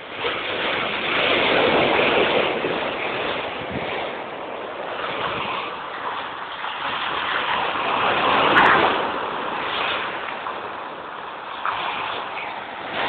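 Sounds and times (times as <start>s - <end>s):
sea waves crashing: 0.0s - 13.0s.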